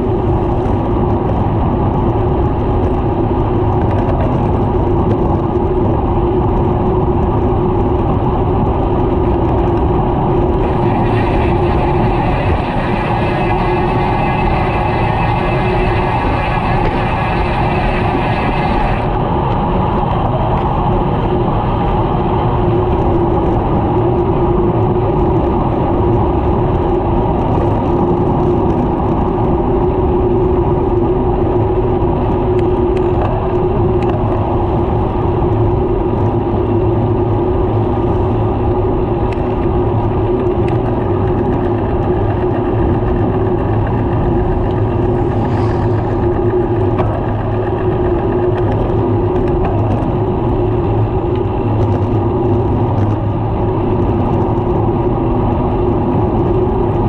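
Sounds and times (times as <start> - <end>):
bicycle road noise: 0.0 - 57.0
wind noise: 0.0 - 57.0.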